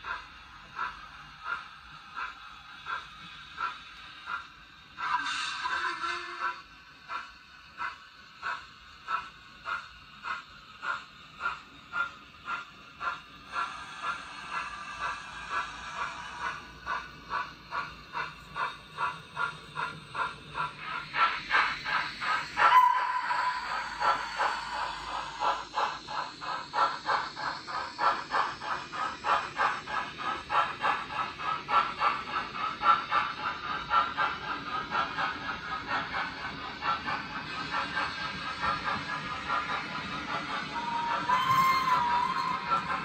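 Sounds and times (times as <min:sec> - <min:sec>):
model steam locomotive chuffing: 0:00.0 - 0:43.0
steam hiss: 0:00.0 - 0:43.0.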